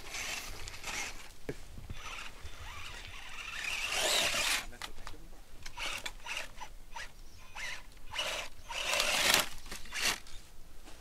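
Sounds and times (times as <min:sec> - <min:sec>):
toy truck tyres scrabbling on dirt: 0:00.0 - 0:10.4.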